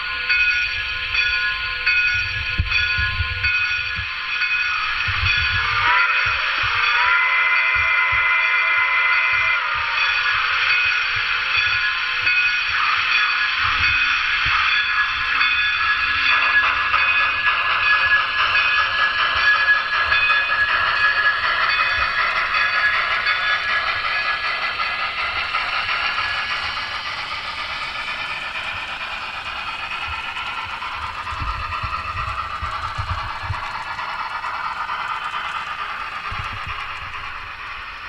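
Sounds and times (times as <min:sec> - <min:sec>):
model steam locomotive sounds: 0:00.0 - 0:38.0.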